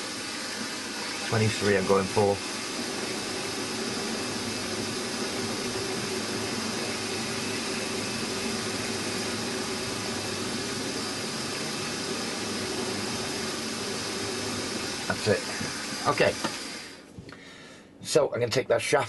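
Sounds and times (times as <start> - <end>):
drill cutting metal: 0.0 - 17.0
milling machine motor hum: 0.0 - 17.1.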